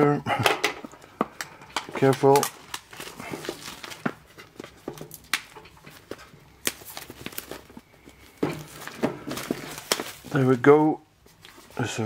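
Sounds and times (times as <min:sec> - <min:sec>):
plastic shrink wrap crinkling: 0:00.9 - 0:12.0.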